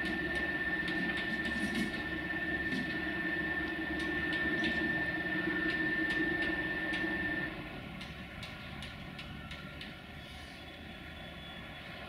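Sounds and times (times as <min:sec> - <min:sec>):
electric jacks whining and humming: 0:00.0 - 0:10.0.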